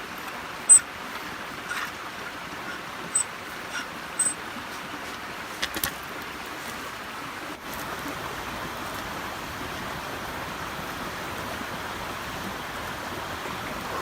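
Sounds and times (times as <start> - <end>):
river flowing: 0.0 - 14.0.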